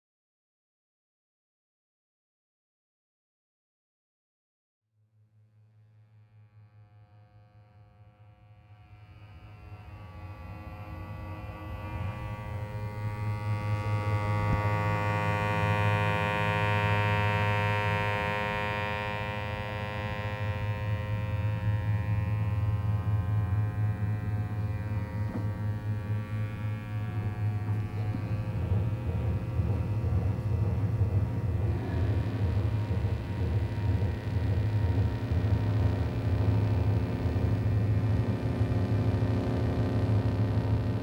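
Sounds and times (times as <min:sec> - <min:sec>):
low droning hum: 0:07.2 - 0:41.0.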